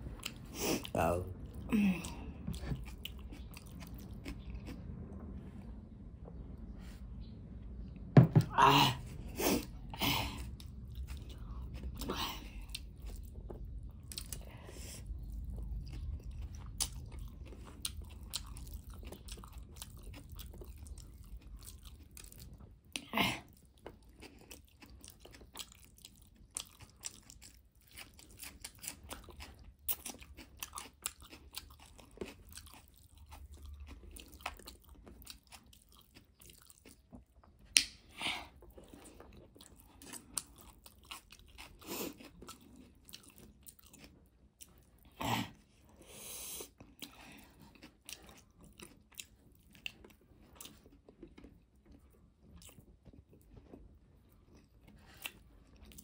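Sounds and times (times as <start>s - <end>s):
person chewing noodles: 0.0s - 5.2s, 8.5s - 56.0s.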